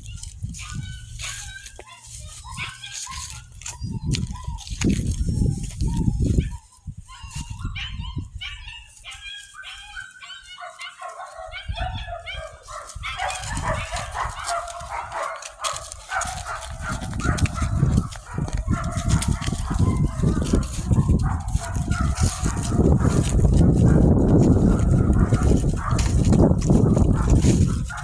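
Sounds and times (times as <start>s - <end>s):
puppies whining and yipping: 0.0s - 28.0s.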